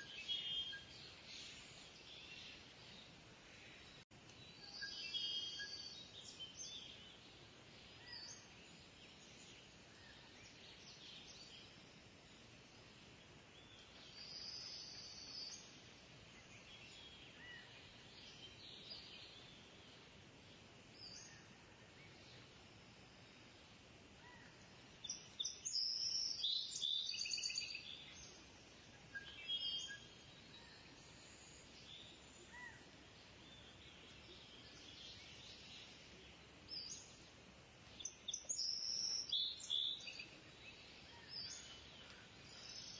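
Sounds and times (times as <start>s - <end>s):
background hiss: 0.0s - 42.9s.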